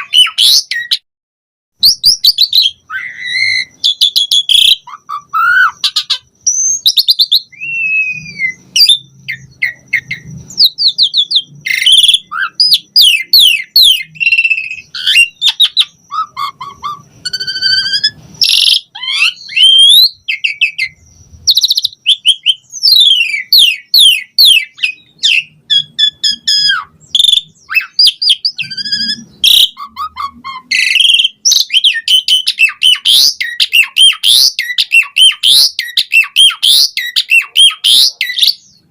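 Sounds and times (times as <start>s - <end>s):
starling singing: 0.0s - 1.0s, 1.8s - 38.9s.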